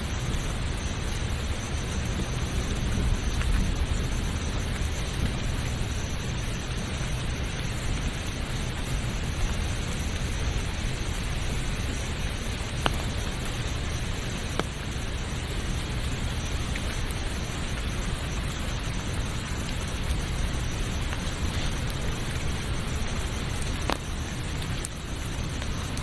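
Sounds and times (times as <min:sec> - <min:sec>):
rain hissing: 0:00.0 - 0:26.0
running water: 0:00.0 - 0:26.0
faint ticks: 0:00.1 - 0:26.0.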